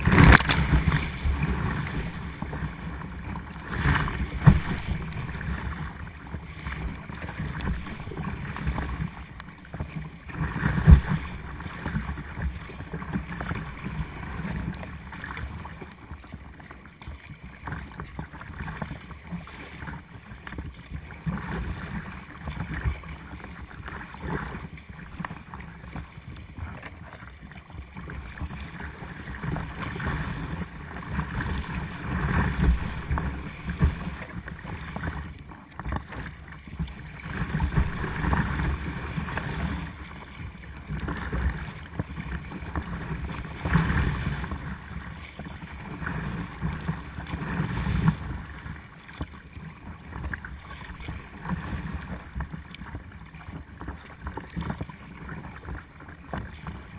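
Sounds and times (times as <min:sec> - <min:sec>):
sea splashing over kayak bow: 0:00.0 - 0:56.9.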